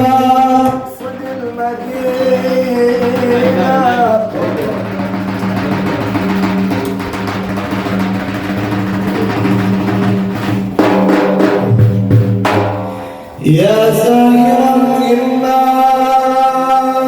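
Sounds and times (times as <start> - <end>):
drums beating: 0.0 - 15.0.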